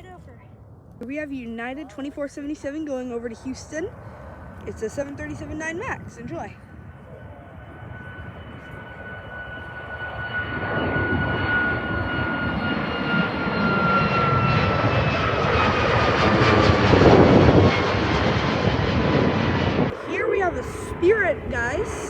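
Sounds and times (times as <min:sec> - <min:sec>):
jet airliner engines roaring: 0:01.7 - 0:22.0
engine whine: 0:03.6 - 0:22.0.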